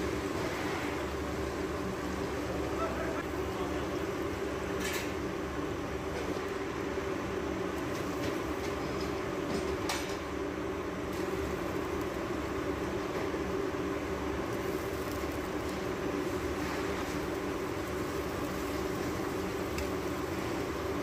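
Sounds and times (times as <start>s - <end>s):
oil and fat sizzling in a pot: 3.2s - 21.0s.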